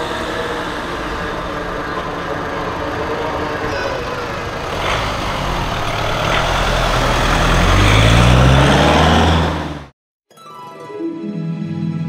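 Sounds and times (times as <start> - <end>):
vehicle engine pulling away: 0.0 - 9.9.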